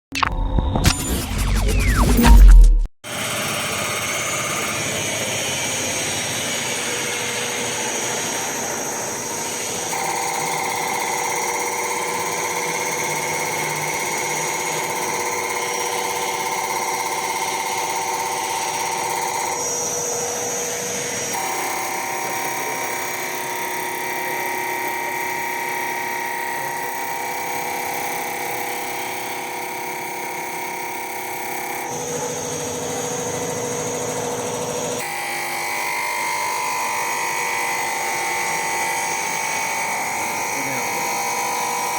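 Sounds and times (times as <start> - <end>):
machine whine: 0.0 - 35.3.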